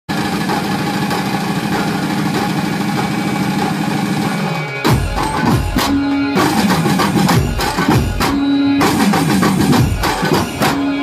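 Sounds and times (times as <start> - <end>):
bass drums beating fast: 0.1 - 11.0.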